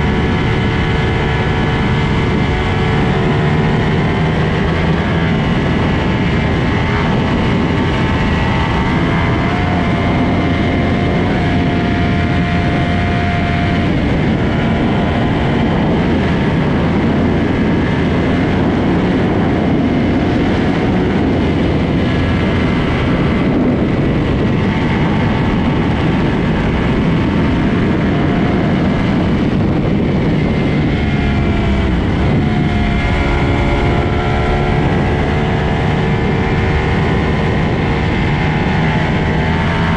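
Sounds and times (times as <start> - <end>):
loud rushing noise: 0.0 - 39.9
motorcycle engines revving: 0.0 - 39.9.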